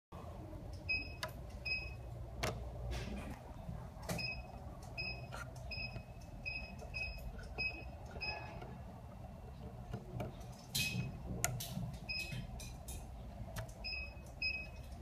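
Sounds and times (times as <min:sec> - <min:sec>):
low steady hum: 0:00.2 - 0:15.0.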